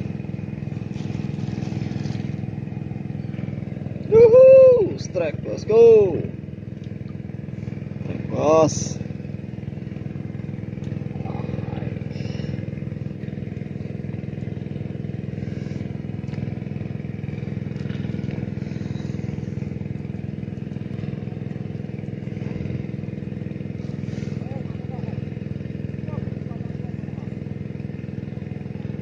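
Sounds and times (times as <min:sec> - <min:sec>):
small engine running steadily: 0:00.0 - 0:29.0.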